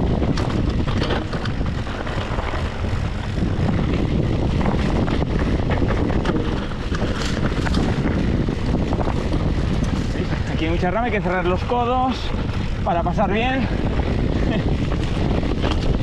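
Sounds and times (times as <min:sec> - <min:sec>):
bike clicks and rattles: 0:00.0 - 0:16.0
bike tyre rumble: 0:00.0 - 0:16.0
wind on microphone: 0:00.0 - 0:16.0.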